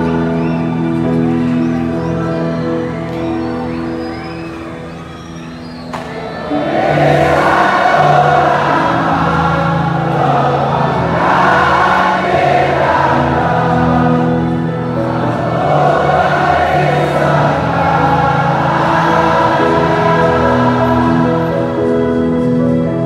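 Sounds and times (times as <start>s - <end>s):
stadium crowd chanting: 0.0s - 22.0s.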